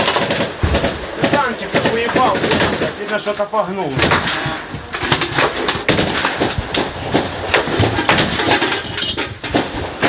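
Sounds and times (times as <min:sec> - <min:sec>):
noisy background: 0:00.0 - 0:10.0
sharp cracks and knocks: 0:00.0 - 0:10.0.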